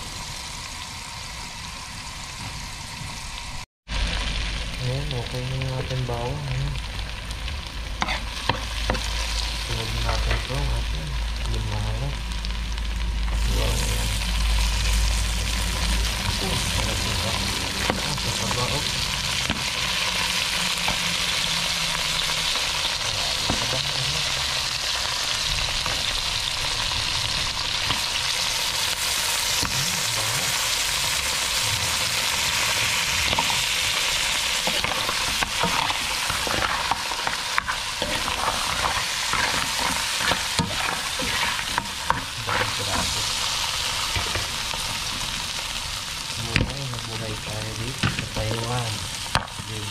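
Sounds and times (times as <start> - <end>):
crab sizzling in a pan: 0.0 - 49.9.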